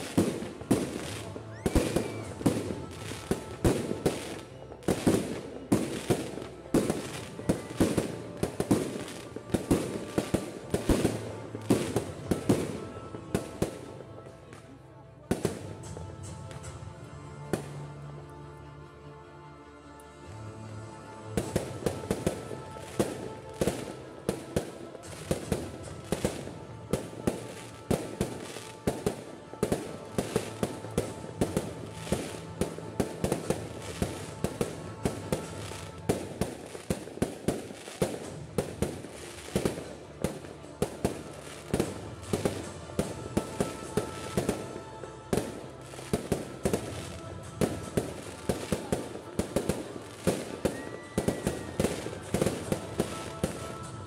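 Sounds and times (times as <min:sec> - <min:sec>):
fireworks crackling: 0:00.0 - 0:18.4, 0:21.2 - 0:54.0.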